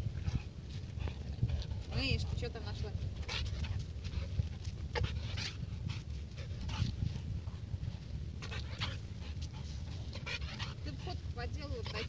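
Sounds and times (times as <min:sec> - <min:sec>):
dog panting and whining: 0:00.2 - 0:07.2, 0:08.4 - 0:12.0.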